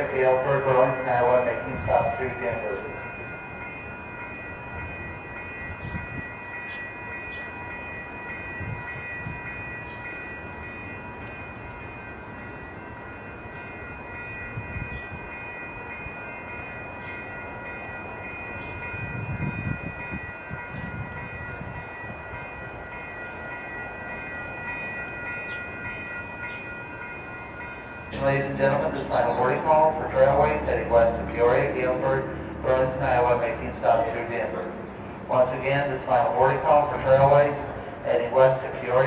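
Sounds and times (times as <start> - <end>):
crossing warning bell ringing: 0.0 - 39.0
train rumbling over tracks: 0.0 - 39.0.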